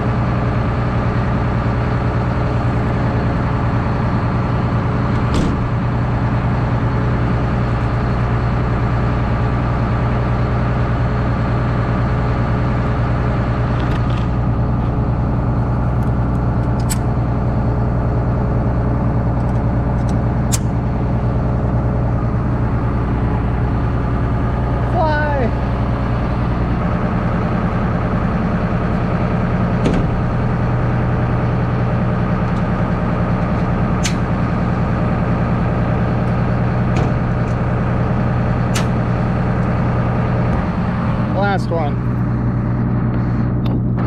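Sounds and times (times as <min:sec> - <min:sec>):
heavy engine idling: 0:00.0 - 0:44.0.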